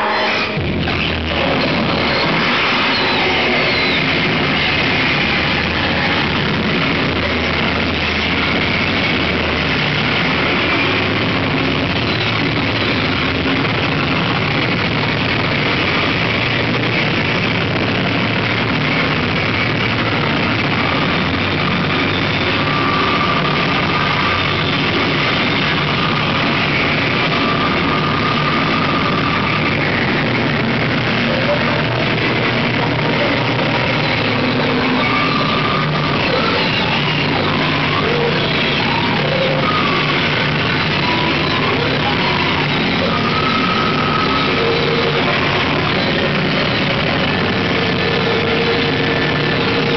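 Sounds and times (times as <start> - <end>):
low rumbling drone: 0.0 - 49.9
wall of electronic noise: 0.0 - 49.9.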